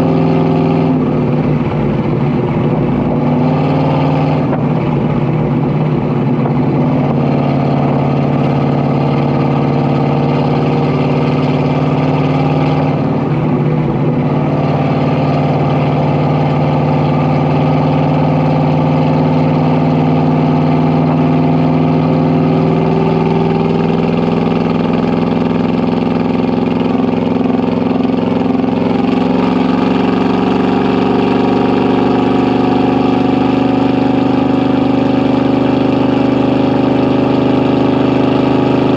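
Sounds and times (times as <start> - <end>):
car exhaust low engine note: 0.0 - 38.9.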